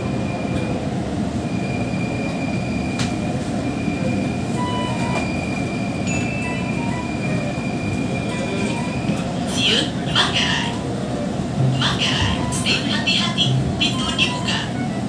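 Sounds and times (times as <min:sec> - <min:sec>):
electric train rumbling: 0:00.0 - 0:15.0
high-pitched train whine: 0:00.0 - 0:15.0
train squealing: 0:00.0 - 0:15.0.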